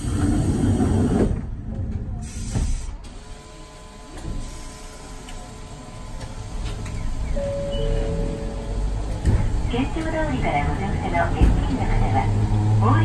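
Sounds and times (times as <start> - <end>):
tram equipment hum with whine: 0.0 - 13.0
tram mechanical rumble: 0.0 - 13.0.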